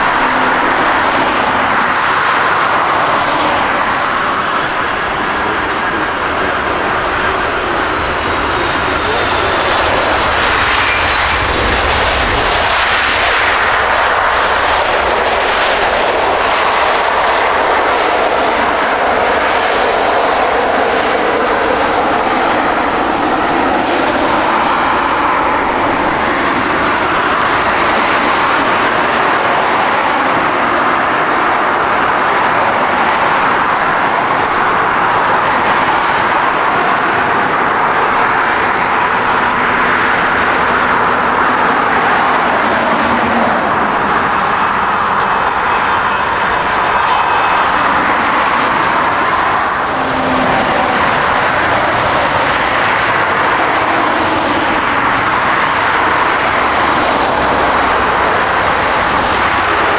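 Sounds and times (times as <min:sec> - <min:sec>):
jet airliner engines landing: 0:00.0 - 0:59.9.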